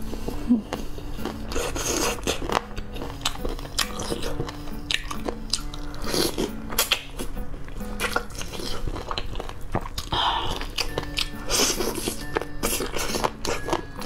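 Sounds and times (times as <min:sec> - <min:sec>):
background music: 0:00.0 - 0:14.0
wet chewing and biting: 0:00.0 - 0:14.0.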